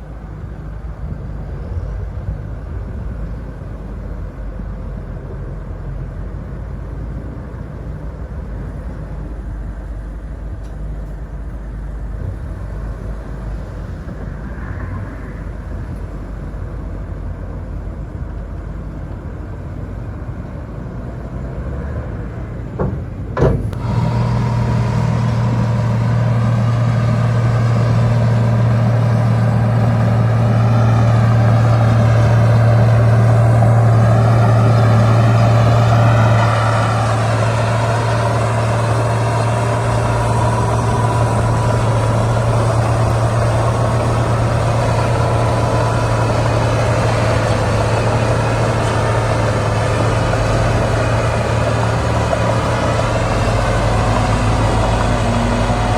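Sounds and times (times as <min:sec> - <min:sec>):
heavy diesel engine under load: 0:00.0 - 0:55.9.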